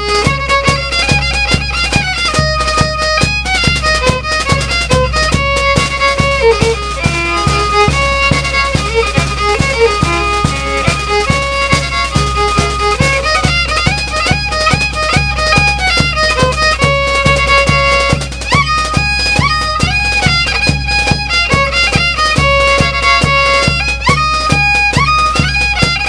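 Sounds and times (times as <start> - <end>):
instrumental music with steady beat: 0.0 - 26.0.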